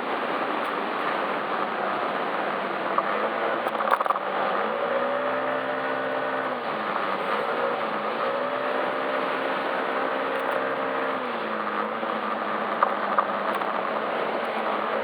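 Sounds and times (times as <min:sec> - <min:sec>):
steady rushing noise: 0:00.0 - 0:15.0
scooter engine revving: 0:02.4 - 0:15.0.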